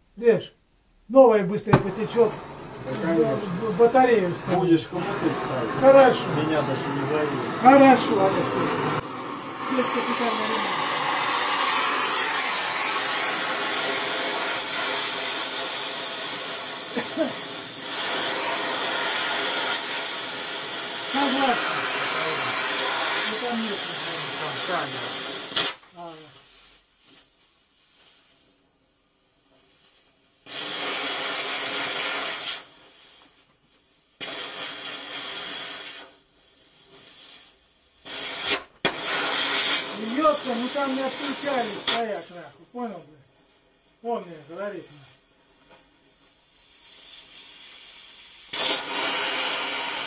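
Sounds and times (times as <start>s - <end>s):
welding torch hissing: 1.2s - 50.0s.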